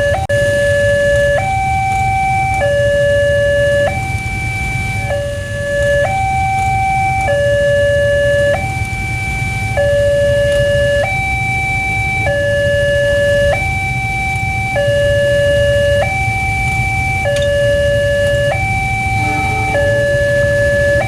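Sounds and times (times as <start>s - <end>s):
two-tone level crossing siren: 0.0s - 21.0s.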